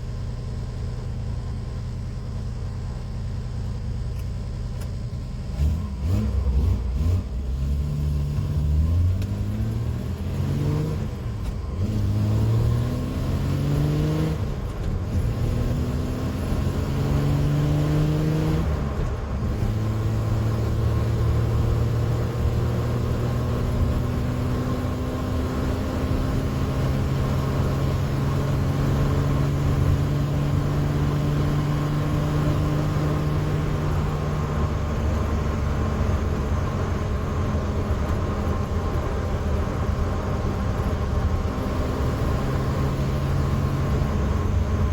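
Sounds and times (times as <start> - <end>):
car engine accelerating through gears: 2.6 - 44.9.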